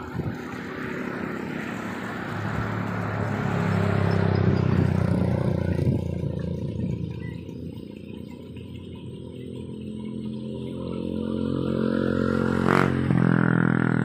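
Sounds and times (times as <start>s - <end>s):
vehicle engine driving past: 0.0s - 14.0s.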